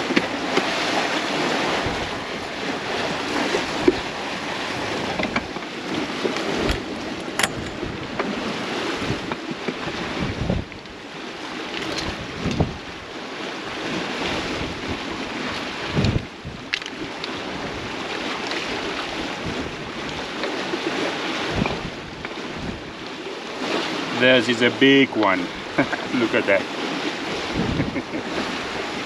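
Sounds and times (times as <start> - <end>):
water rushing past hulls: 0.0 - 29.0
wind buffeting microphone: 0.0 - 29.0.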